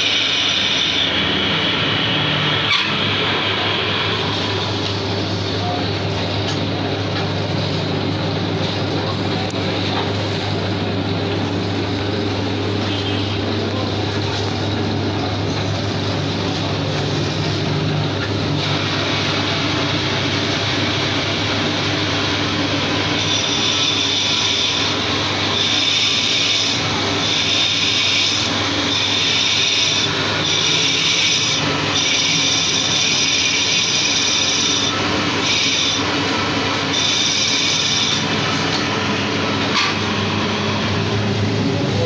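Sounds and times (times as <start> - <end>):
high-pitched cutting whine: 0.0 - 42.0
lathe motor hum: 0.0 - 42.0.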